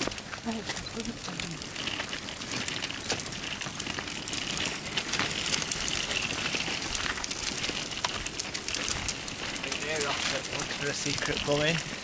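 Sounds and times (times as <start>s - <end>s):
footsteps on gravel: 0.0s - 12.0s.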